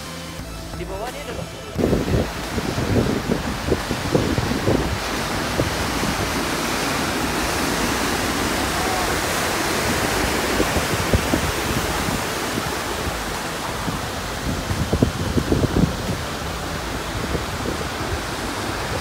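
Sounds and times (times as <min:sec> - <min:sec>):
surf breaking against rocks: 0:01.0 - 0:19.0.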